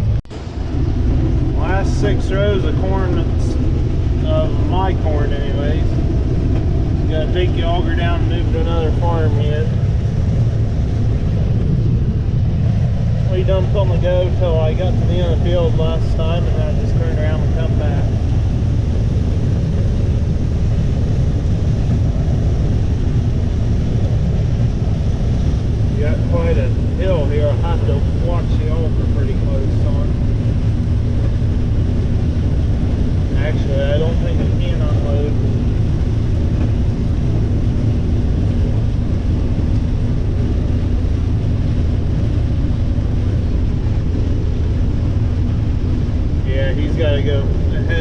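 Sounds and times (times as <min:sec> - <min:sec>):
combine harvester droning: 0:00.0 - 0:48.0.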